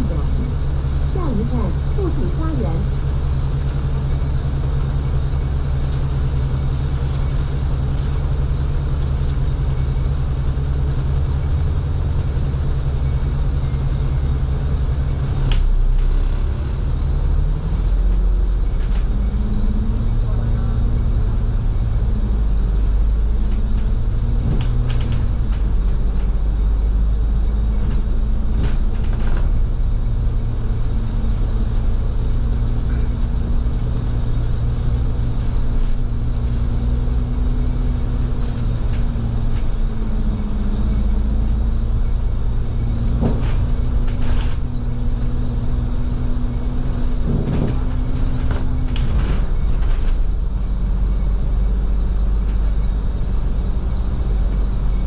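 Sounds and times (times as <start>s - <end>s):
bus engine hum: 0.0s - 55.0s
road rumble: 0.0s - 55.0s.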